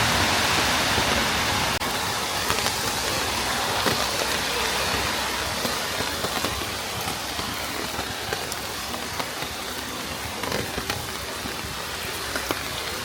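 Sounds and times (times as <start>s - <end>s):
raindrops ticking on surfaces: 0.0s - 13.0s
steady rain falling: 0.0s - 13.0s.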